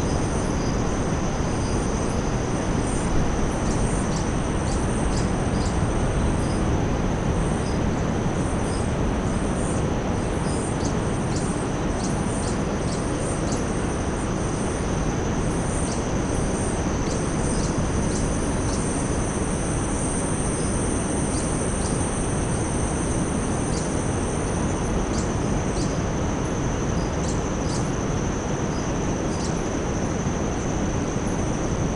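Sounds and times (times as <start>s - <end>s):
high-pitched insect drone: 0.0s - 6.6s, 10.4s - 31.9s.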